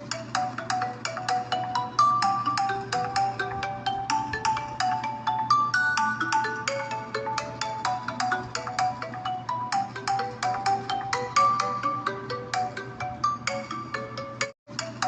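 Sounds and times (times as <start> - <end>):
phone ringtone melody: 0.0 - 15.0.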